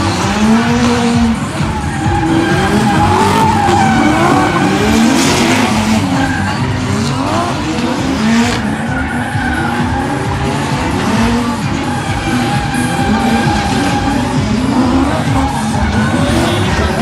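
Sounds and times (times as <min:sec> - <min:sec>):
car engines revving: 0:00.0 - 0:17.0
tyres screeching: 0:00.0 - 0:17.0.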